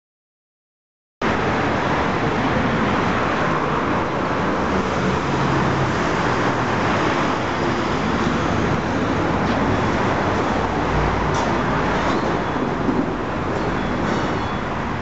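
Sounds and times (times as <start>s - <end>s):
street traffic: 1.2s - 15.0s.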